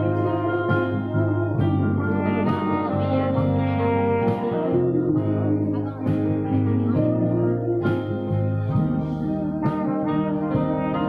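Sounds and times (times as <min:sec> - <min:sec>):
amplified band with trumpet: 0:00.0 - 0:11.0.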